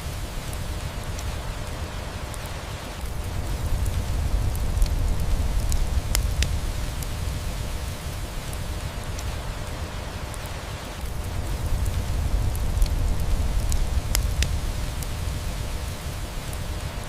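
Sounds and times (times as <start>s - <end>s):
steady rain: 0.0s - 17.0s
wood fire crackling and popping: 0.0s - 17.0s.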